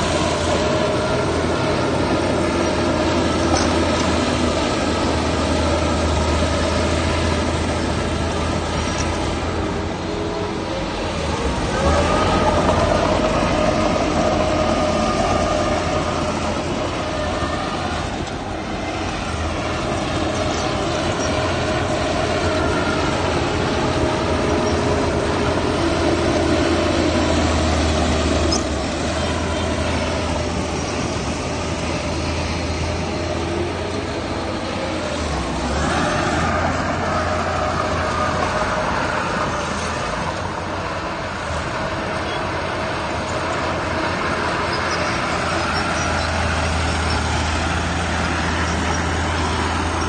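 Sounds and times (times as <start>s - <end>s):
heavy diesel machinery running: 0.0s - 50.0s
machinery whine: 0.0s - 50.0s.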